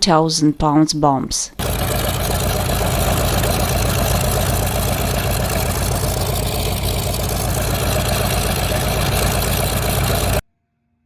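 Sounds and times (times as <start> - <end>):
piston aero engine running: 0.0 - 10.4.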